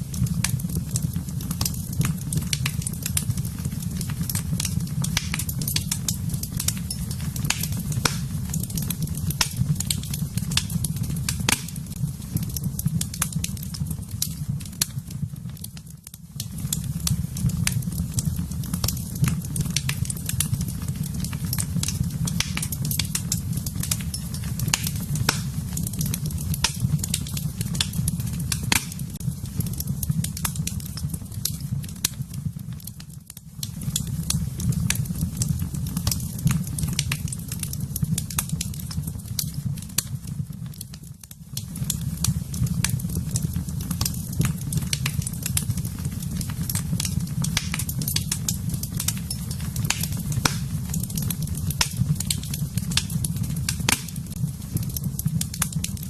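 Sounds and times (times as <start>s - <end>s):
fire low rumble: 0.0s - 56.0s
wood fire crackling and popping: 0.0s - 56.0s.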